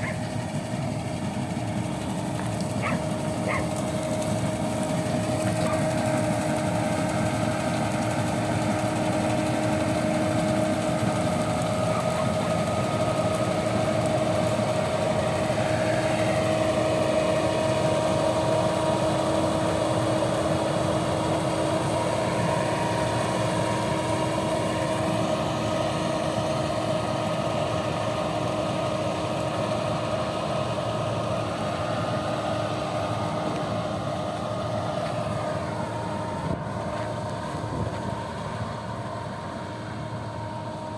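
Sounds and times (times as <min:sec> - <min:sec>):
engine humming steadily: 0:00.0 - 0:40.9.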